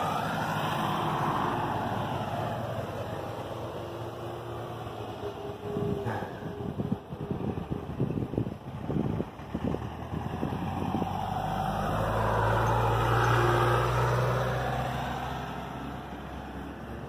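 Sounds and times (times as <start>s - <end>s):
vehicle driving past: 0.0s - 6.8s, 9.4s - 17.0s
low engine hum: 0.0s - 17.0s.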